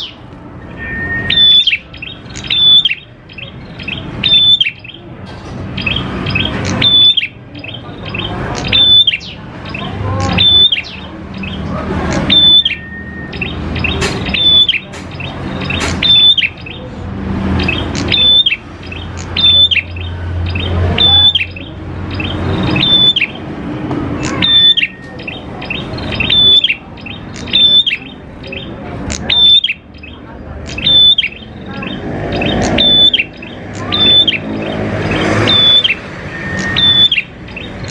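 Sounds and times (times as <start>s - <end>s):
bird singing: 0.0s - 37.9s.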